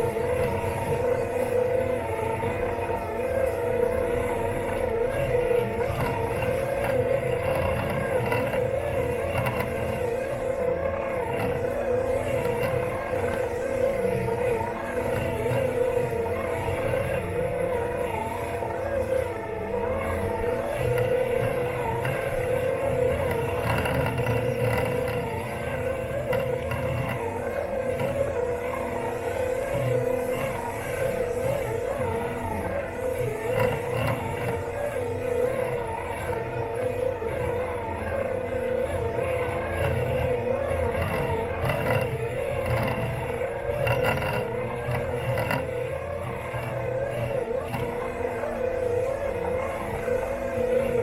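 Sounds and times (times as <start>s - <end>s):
robot mower motor whining hum: 0.0s - 51.0s.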